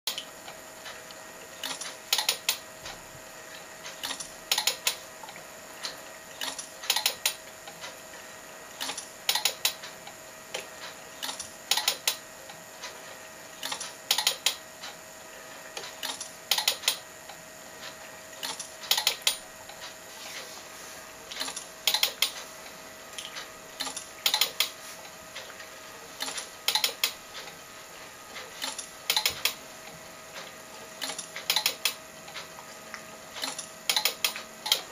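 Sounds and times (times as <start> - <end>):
steady hum: 0.1 - 34.9.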